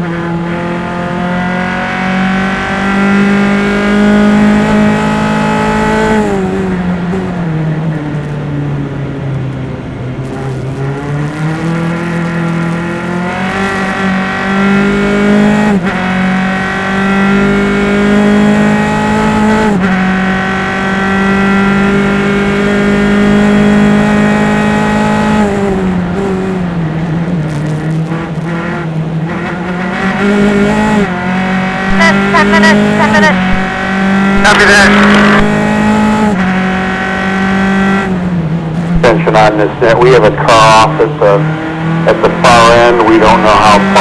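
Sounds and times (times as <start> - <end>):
race car engine accelerating: 0.0 - 44.0.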